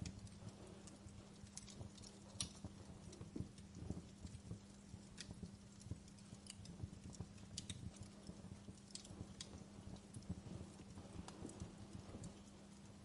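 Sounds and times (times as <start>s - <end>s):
campfire crackling: 0.0s - 13.0s
sharp fire pops: 0.0s - 13.0s.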